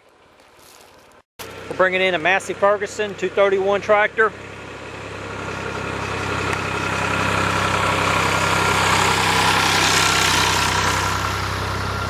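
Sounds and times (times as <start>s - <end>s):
tractor diesel engine running: 1.4s - 12.0s.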